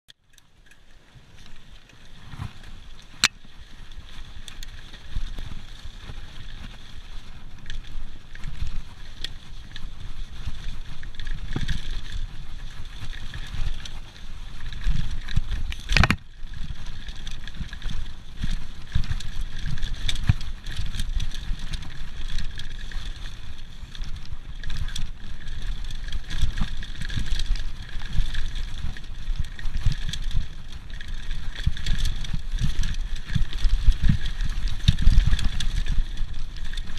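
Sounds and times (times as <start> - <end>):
bike rattling and thudding: 0.2 - 36.9
wind noise on microphone: 1.2 - 36.9.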